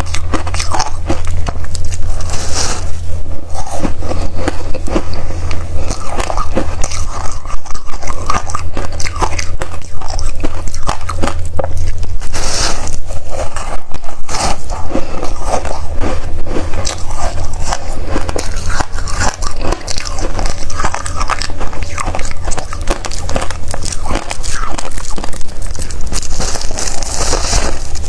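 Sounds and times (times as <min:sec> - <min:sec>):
frost being chewed: 0:00.0 - 0:28.0
steady low hum: 0:00.0 - 0:28.0.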